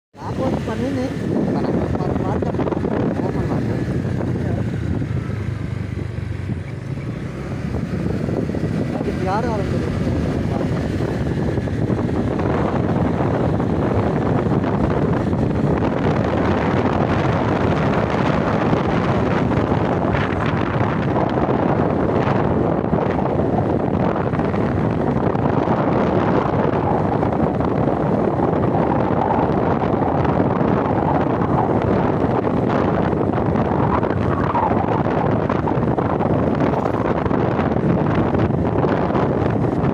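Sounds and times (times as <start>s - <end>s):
wind buffeting microphone: 0.1s - 39.9s.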